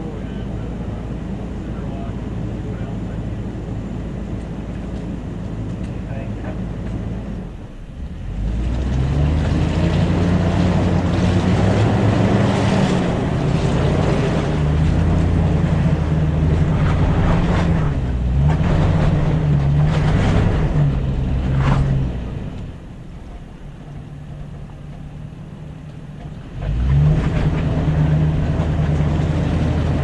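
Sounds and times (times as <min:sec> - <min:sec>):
rough road noise: 0:00.0 - 0:30.0
vehicle engine pulling hard: 0:00.0 - 0:30.0.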